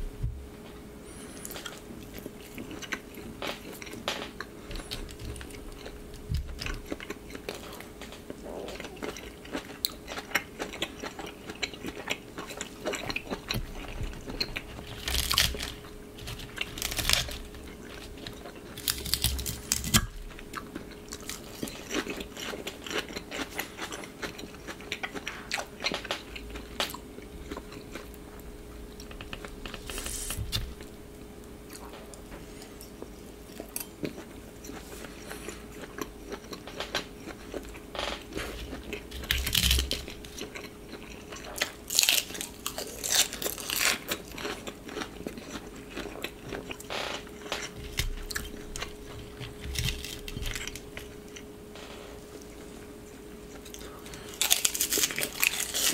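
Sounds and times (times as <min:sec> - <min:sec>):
chewing and biting food: 0:01.4 - 0:30.9, 0:31.6 - 0:51.5, 0:52.4 - 0:55.9.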